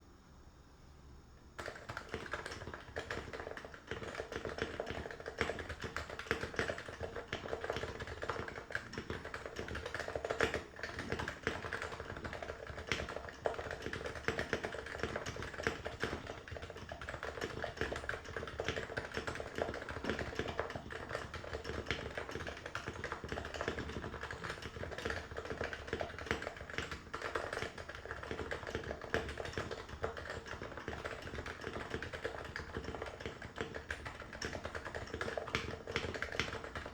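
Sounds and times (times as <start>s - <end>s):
keyboard typing: 1.6s - 36.9s.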